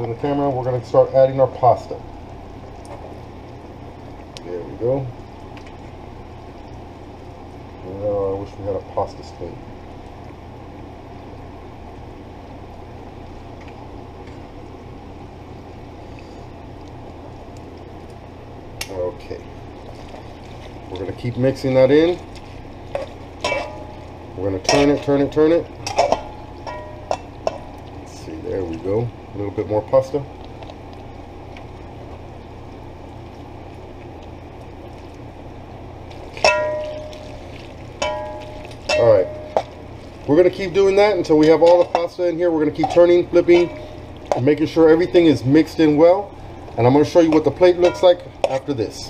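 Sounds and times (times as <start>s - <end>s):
sauce simmering in a pot: 0.1s - 49.0s.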